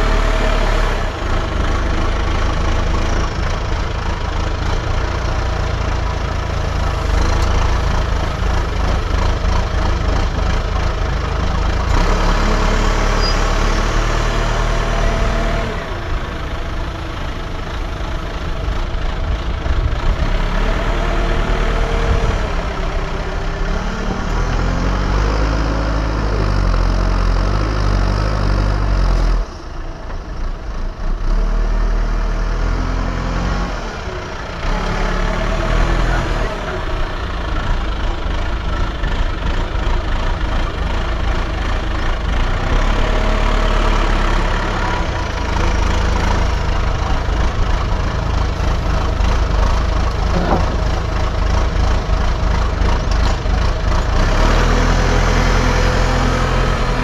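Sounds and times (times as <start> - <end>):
diesel engine working: 0.0 - 57.0.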